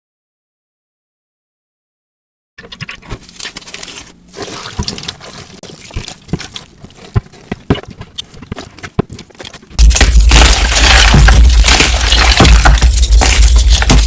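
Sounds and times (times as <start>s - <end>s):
chalk crunching and crackling: 2.7s - 14.0s.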